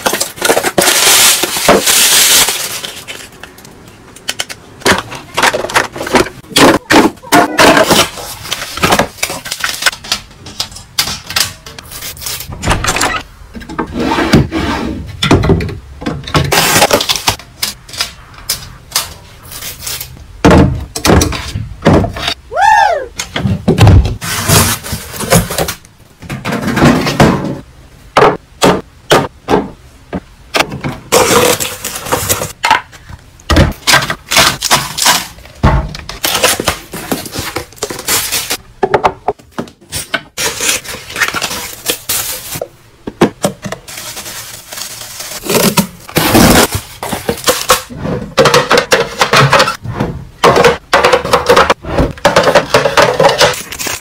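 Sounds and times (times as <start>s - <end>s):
packages crackling and knocking: 0.0s - 13.8s, 15.2s - 22.4s, 23.3s - 54.0s.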